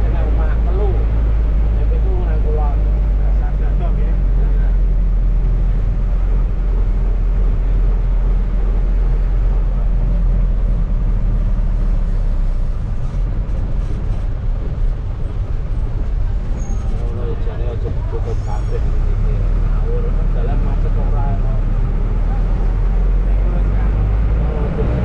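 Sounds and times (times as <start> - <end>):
bus diesel engine running: 0.0 - 25.0
road rumble: 0.0 - 25.0.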